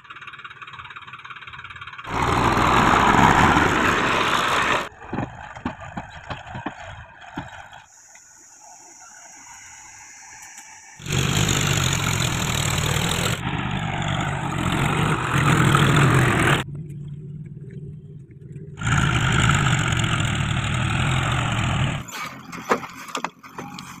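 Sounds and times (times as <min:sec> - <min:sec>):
tractor engine running: 0:00.0 - 0:07.9, 0:10.4 - 0:24.0.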